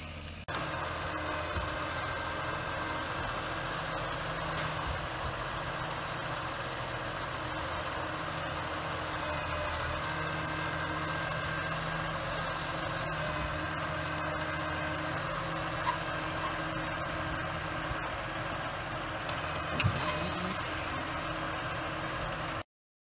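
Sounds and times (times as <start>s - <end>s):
log loader clunks: 0.0s - 22.6s
diesel truck engine running: 0.0s - 22.7s.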